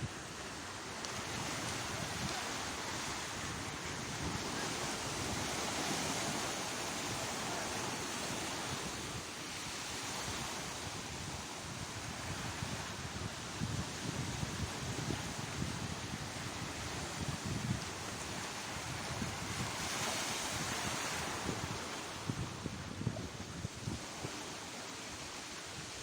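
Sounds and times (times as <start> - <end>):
wind buffeting microphone: 0.0 - 24.5
sea waves breaking on shore: 0.0 - 26.0.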